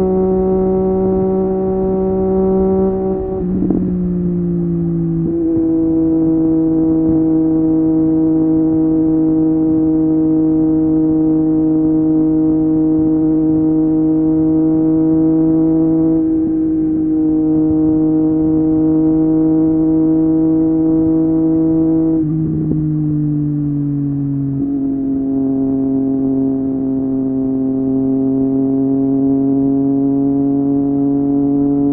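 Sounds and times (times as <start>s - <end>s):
motorcycle engine cruising drone: 0.0s - 31.9s.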